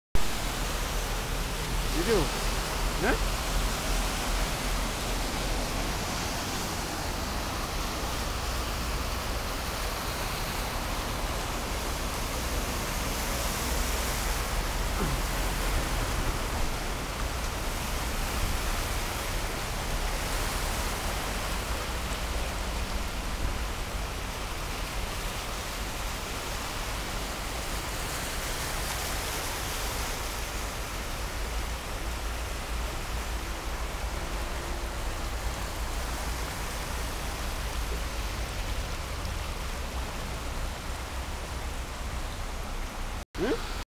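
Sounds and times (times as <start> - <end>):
cars splashing through water: 0.2 - 43.8
heavy rain on flooded street: 0.2 - 43.8.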